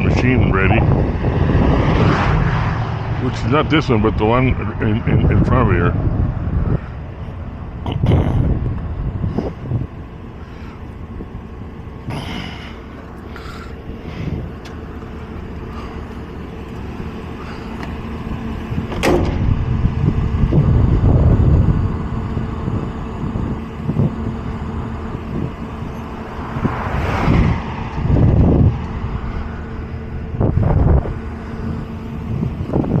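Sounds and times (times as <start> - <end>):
heavy machinery engines idling: 2.8 - 33.0.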